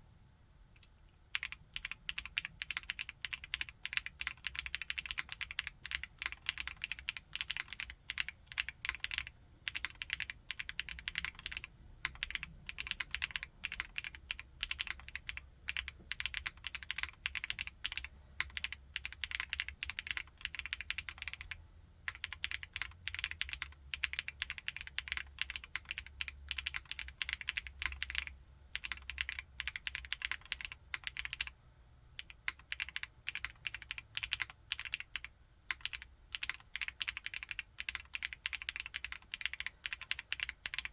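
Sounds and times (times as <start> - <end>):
mechanical keyboard typing: 0.8 - 31.6, 32.2 - 40.9.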